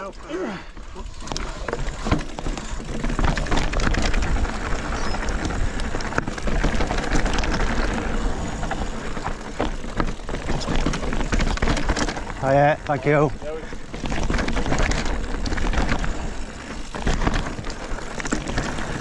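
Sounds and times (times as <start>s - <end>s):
bike rattling and clattering: 0.0s - 19.0s
tyres crunching over stone: 0.3s - 19.0s.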